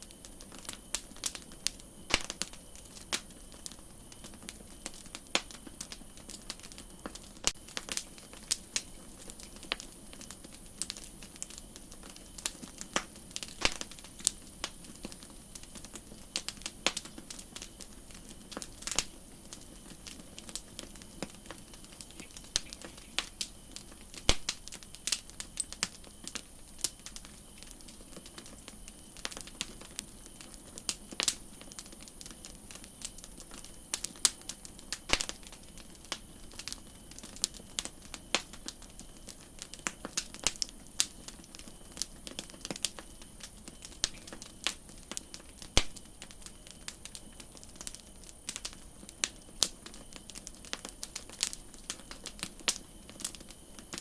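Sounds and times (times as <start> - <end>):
campfire crackling: 0.0 - 54.0
faint steady background noise: 0.0 - 54.0.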